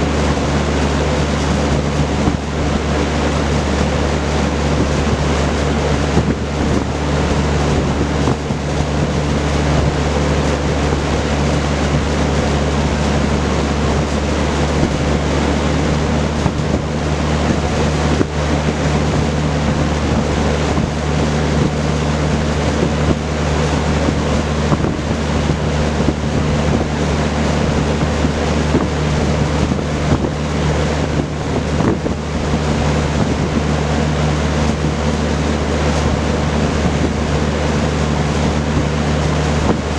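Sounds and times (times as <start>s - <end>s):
box fan air rushing: 0.0s - 39.9s
low motor hum: 0.0s - 39.9s.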